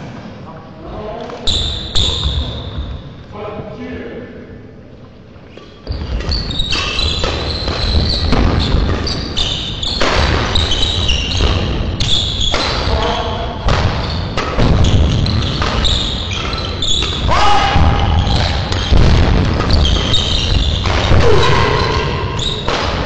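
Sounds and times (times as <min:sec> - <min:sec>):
court shoes squeaking on floor: 0:01.4 - 0:03.3, 0:05.5 - 0:23.0.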